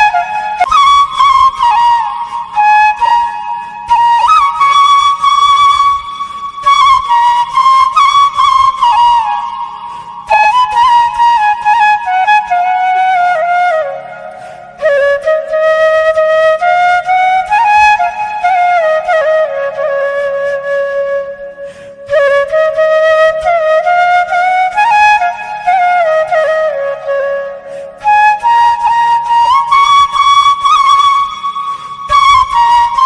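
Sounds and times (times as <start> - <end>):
solo flute melody: 0.0 - 33.0.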